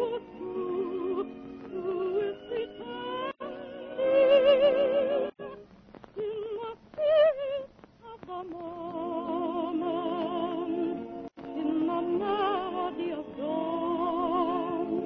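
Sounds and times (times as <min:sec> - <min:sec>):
woman singing with vibrato: 0:00.0 - 0:05.6, 0:06.2 - 0:15.0.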